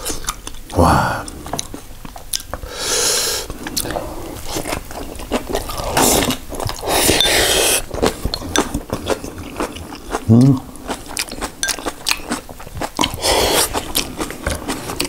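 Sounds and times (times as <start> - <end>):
crunchy chewing: 0.0 - 2.6, 3.4 - 15.0.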